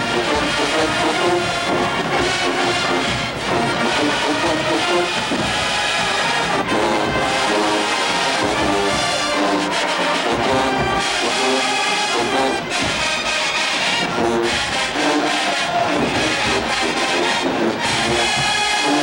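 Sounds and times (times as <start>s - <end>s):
brass holding chords: 0.0s - 19.0s
marching band drums: 0.0s - 19.0s.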